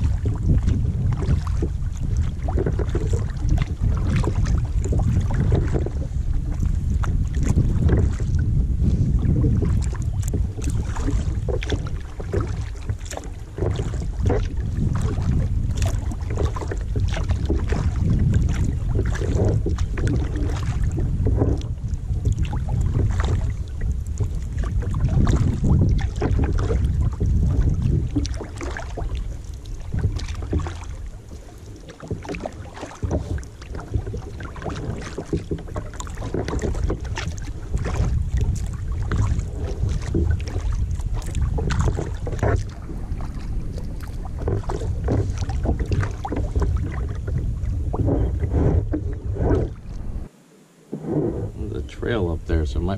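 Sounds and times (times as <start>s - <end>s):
kayak paddle splashing: 0.0s - 52.9s
wind rumbling on microphone: 0.0s - 52.9s.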